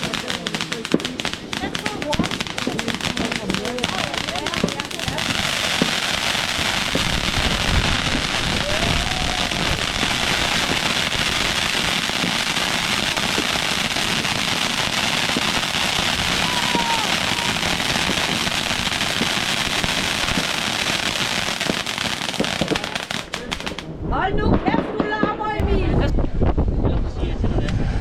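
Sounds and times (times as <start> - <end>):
fireworks crackling: 0.0 - 26.1.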